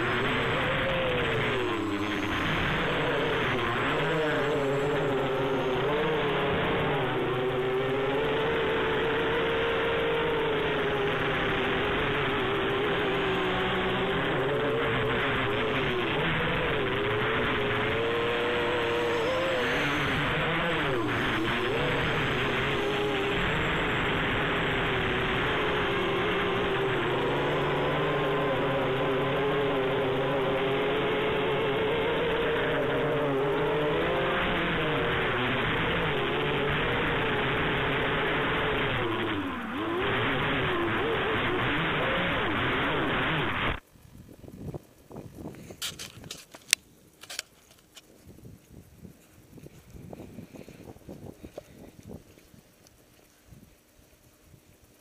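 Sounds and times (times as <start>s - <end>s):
drone propellers buzzing: 0.0s - 55.0s
quadcopter motors whining: 0.0s - 55.0s.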